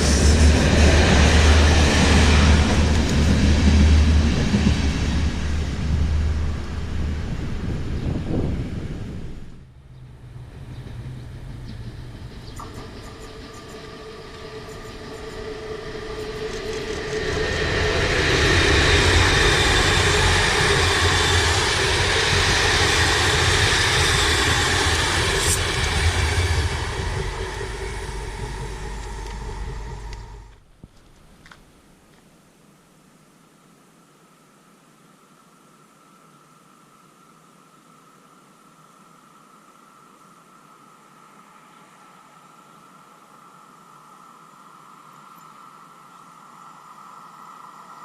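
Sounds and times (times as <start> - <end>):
electric train passing: 0.0 - 30.7, 40.0 - 48.0.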